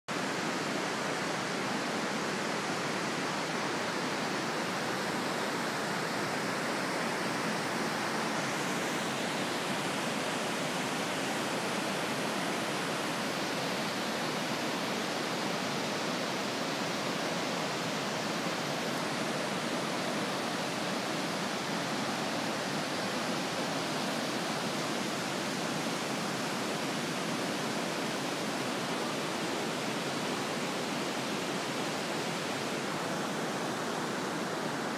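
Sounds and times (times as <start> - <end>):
stream rushing: 0.1 - 34.9.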